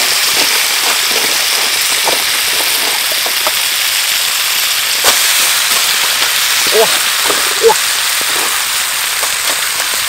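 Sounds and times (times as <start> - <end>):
crabs sizzling in a wok: 0.0 - 10.0
small crackles and pops: 0.0 - 10.0.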